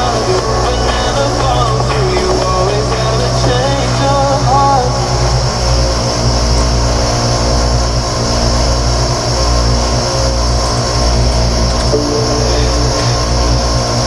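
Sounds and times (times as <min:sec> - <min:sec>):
pulsing bass: 0:00.0 - 0:14.0
sustained droning tones: 0:00.0 - 0:14.0.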